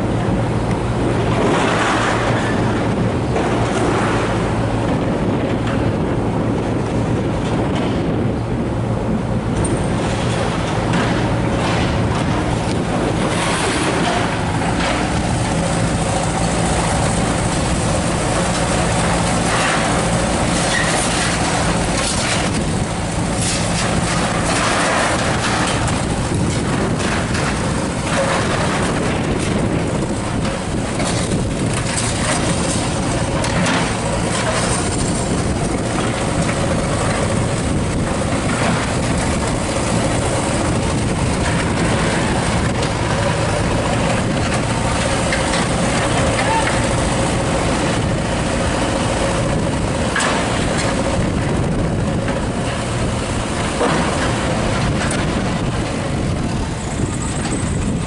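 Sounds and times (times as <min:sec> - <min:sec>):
loud engine rumble: 0:00.0 - 0:58.0
street noise: 0:00.0 - 0:58.0
knocks and clatters: 0:09.5 - 0:58.0.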